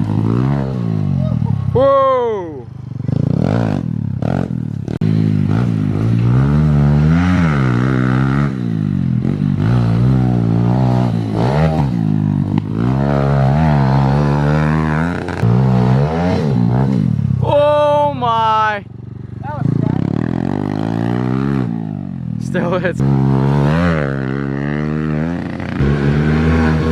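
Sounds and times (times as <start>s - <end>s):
motorbike engine revving: 0.0s - 26.9s.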